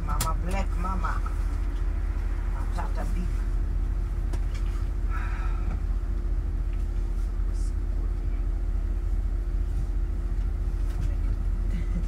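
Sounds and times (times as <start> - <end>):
bus engine low rumble: 0.0 - 12.0
constant hum: 0.0 - 12.0.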